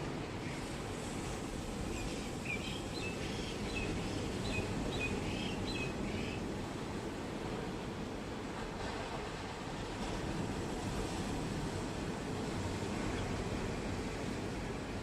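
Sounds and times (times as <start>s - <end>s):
sea surf breaking on beach: 0.0s - 15.0s.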